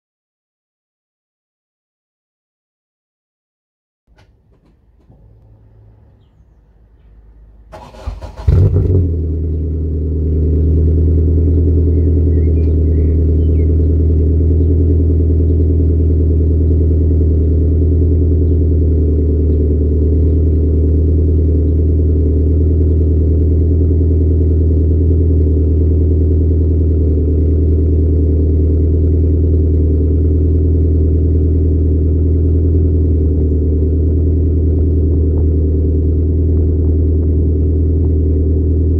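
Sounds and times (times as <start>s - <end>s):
car engine starting and idling: 4.1s - 38.9s.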